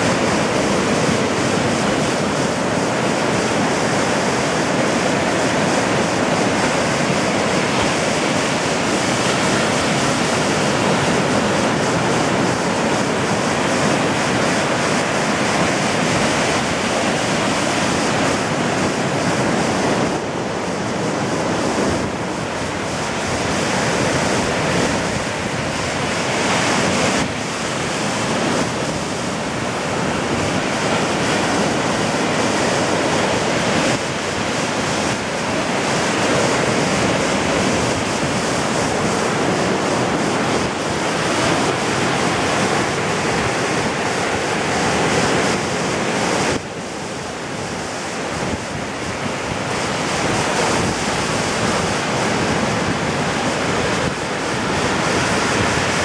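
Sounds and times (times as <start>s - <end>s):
ocean waves breaking on beach: 0.0s - 56.0s
wind on microphone: 0.0s - 56.0s.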